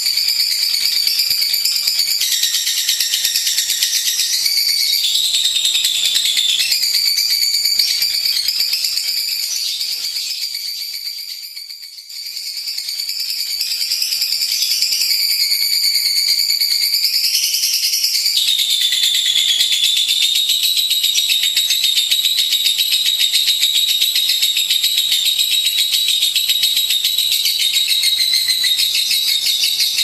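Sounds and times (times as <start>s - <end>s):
bird chattering song: 0.1s - 30.0s.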